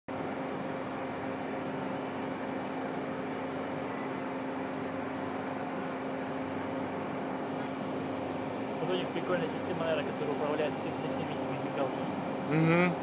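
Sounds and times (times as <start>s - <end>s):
mechanical hum with low drone: 0.1s - 13.0s.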